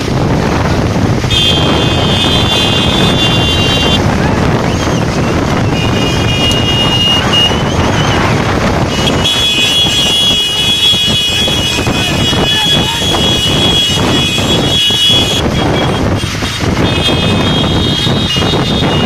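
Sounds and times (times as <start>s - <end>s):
motorbike engines running: 0.0s - 19.0s
wind buffeting microphone: 0.0s - 19.0s.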